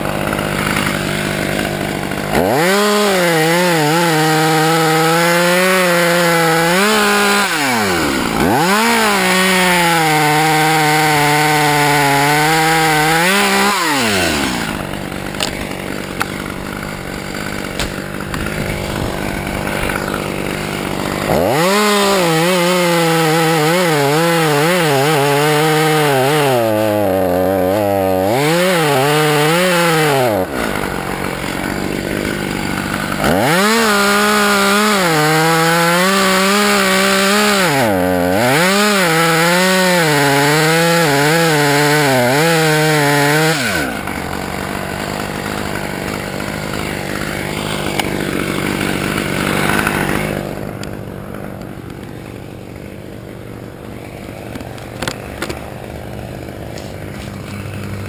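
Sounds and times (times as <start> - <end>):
chainsaw revving and cutting wood: 0.0 - 58.0.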